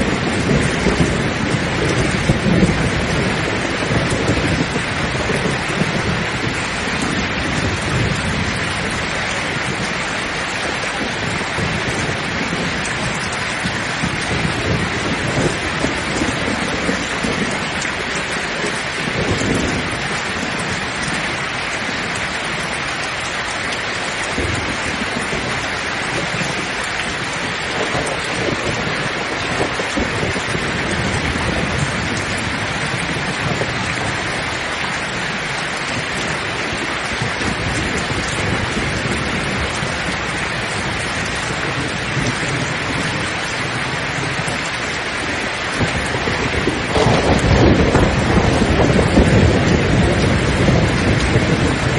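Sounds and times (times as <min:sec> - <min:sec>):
heavy rain: 0:00.0 - 0:51.9
thunder rumbles: 0:00.0 - 0:51.9.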